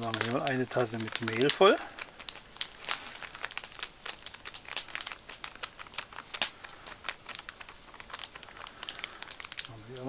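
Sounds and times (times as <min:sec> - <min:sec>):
flour bag crinkling: 0:00.0 - 0:10.0.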